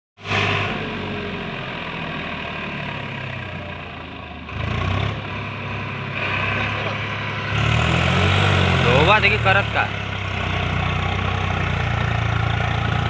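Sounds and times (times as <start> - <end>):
tractor diesel engine running: 0.2 - 13.0.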